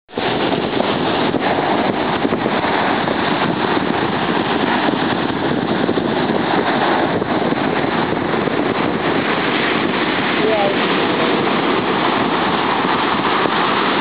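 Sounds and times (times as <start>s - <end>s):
waves breaking: 0.1s - 14.0s.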